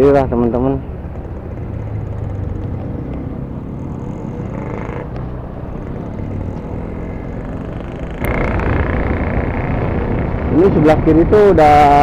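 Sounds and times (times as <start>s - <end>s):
motorcycle engine and road noise: 0.0s - 12.0s
wind rumble on microphone: 1.0s - 12.0s.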